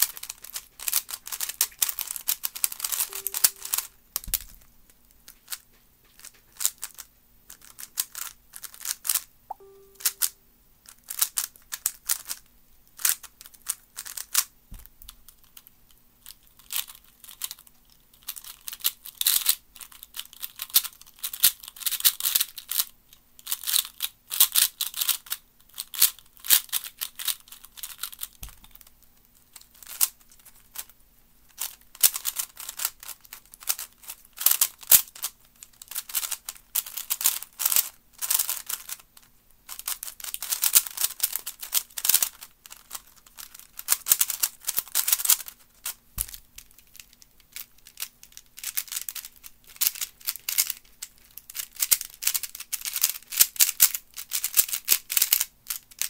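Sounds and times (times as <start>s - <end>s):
speed cube clicking and clattering: 0.0s - 9.3s, 10.9s - 56.0s.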